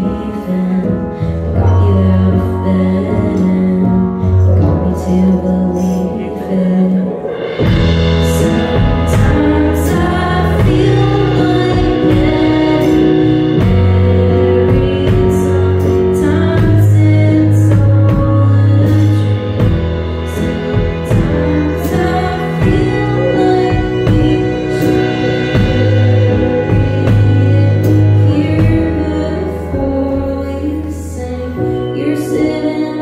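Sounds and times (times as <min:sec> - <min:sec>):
live band with singer: 0:00.0 - 0:33.0.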